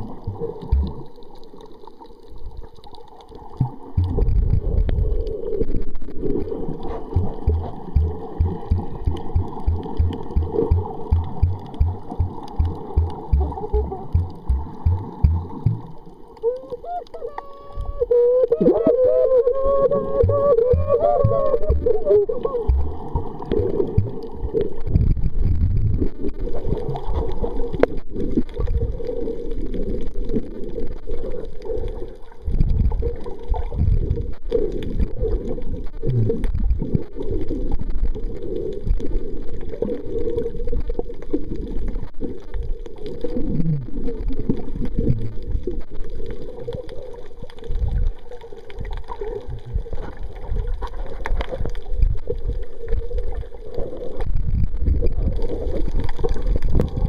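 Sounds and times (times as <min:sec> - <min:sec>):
underwater rushing and gurgling water: 0:00.0 - 0:57.0.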